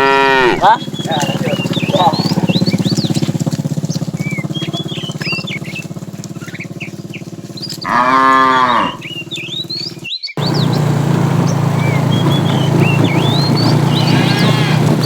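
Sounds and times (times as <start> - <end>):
cows mooing: 0.0 - 15.0
small birds chirping: 0.0 - 15.0.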